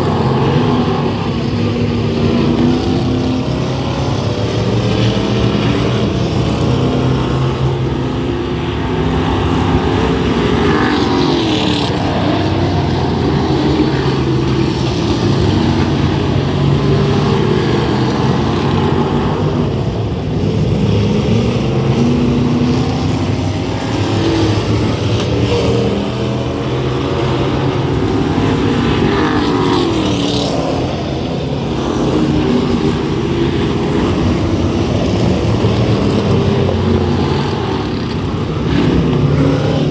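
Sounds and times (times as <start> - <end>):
racing engines accelerating and passing: 0.0 - 39.9.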